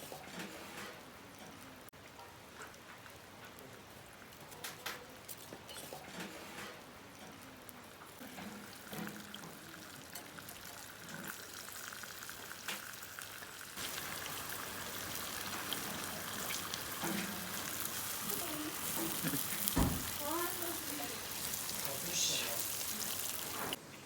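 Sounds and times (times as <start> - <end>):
food sizzling in a pan: 0.0 - 23.8.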